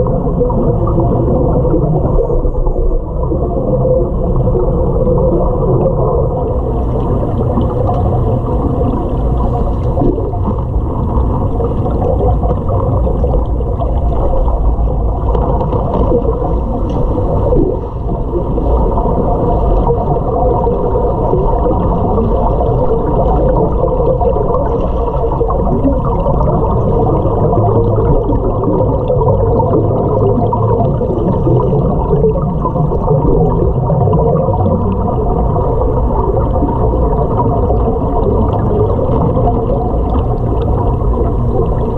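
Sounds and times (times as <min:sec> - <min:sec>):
gurgling exhaust bubbles: 0:00.0 - 0:41.9
low underwater drone: 0:00.0 - 0:41.9.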